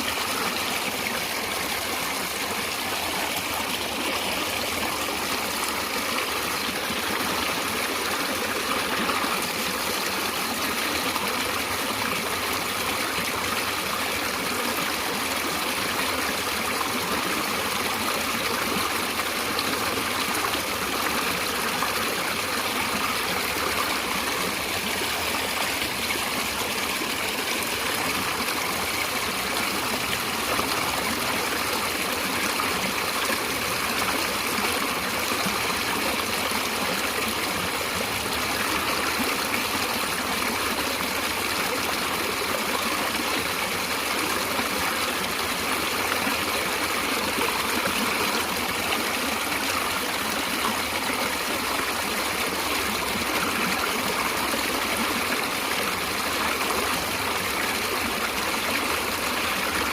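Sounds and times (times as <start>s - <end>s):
running water flowing: 0.0s - 59.9s.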